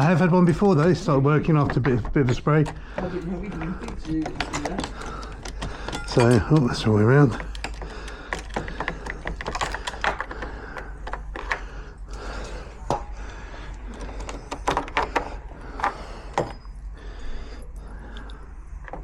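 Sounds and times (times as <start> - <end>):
metal lock parts clicking: 0.5 - 13.1, 13.7 - 16.6.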